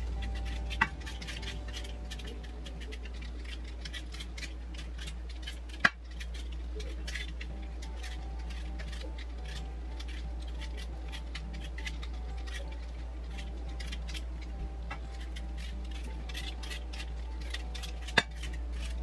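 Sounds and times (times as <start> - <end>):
peeler scraping potato skin: 0.0 - 19.0.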